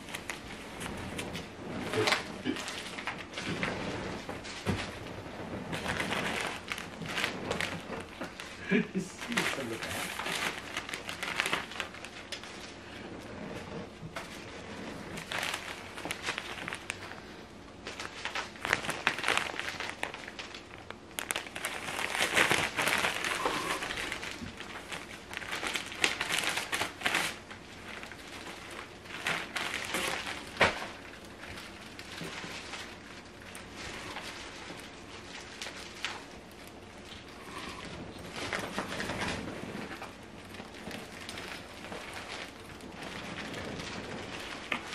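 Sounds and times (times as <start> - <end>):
plastic bag crinkling: 0.0 - 44.9.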